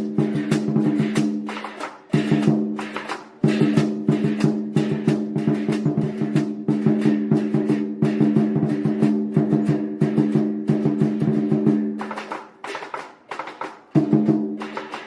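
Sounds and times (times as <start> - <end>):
large drum beaten fast: 0.0 - 12.2, 13.9 - 15.0.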